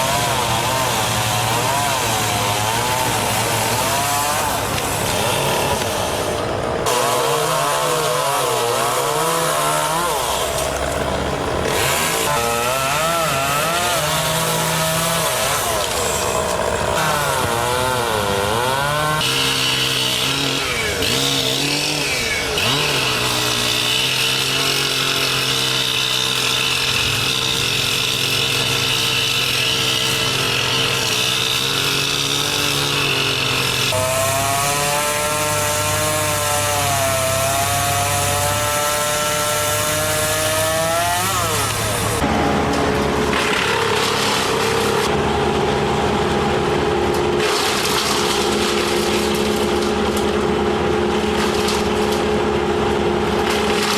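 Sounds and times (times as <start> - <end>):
chainsaw revving: 0.0 - 45.2.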